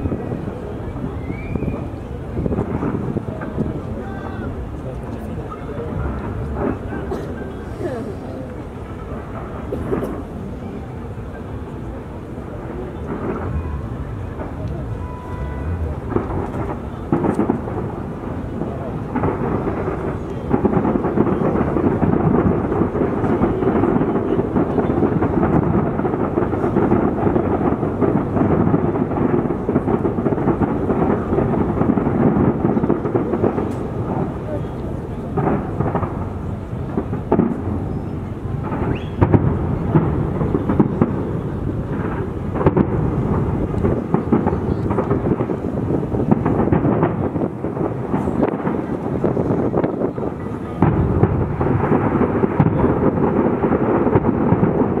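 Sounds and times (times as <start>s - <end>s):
fireworks rumbling barrage: 0.0s - 55.0s
sharp firework bangs: 0.0s - 55.0s.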